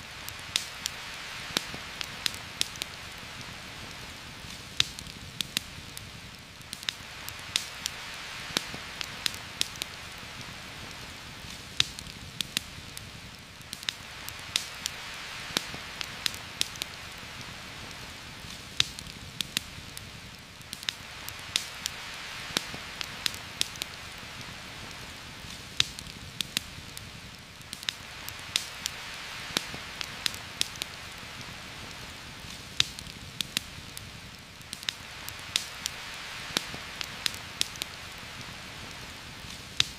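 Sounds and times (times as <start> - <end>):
campfire popping and crackling: 0.0 - 39.9
rain on foliage: 0.0 - 39.9.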